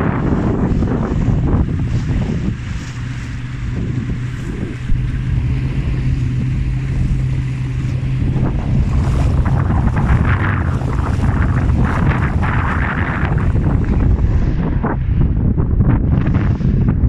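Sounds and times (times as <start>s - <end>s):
boat engine hum: 0.0s - 17.0s
water rushing and splashing: 0.0s - 17.0s
wind buffeting microphone: 0.0s - 17.0s.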